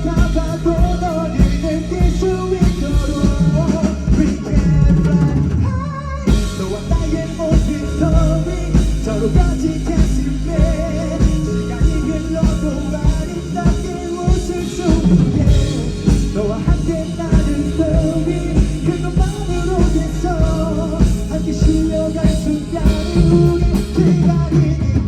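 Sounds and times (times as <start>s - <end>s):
drum kit beat: 0.0s - 5.7s, 6.3s - 25.0s
bass: 0.0s - 25.0s
guitar: 0.0s - 25.0s.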